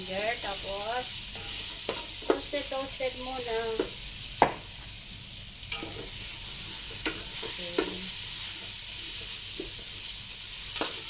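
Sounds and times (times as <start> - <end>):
ginger sizzling in hot oil: 0.0 - 11.0.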